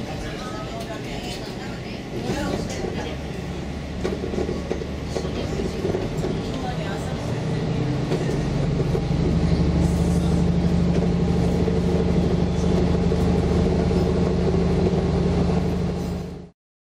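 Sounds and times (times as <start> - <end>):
diesel railcar engine running: 0.0 - 16.5
low train rumble: 0.0 - 16.5.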